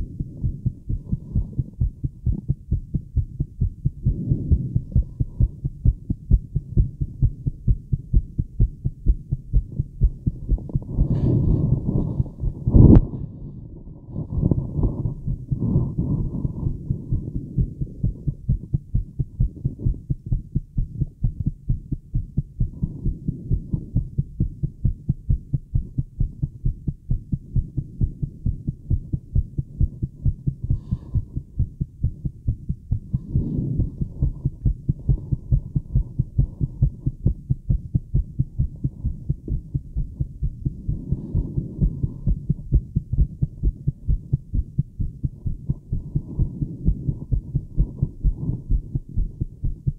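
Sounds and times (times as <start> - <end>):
heartbeat through stethoscope: 0.0 - 49.9.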